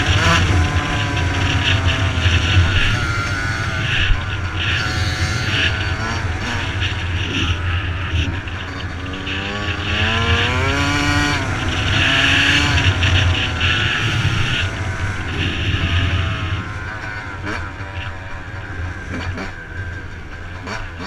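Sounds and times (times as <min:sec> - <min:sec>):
two-stroke engine revving: 0:00.0 - 0:21.0.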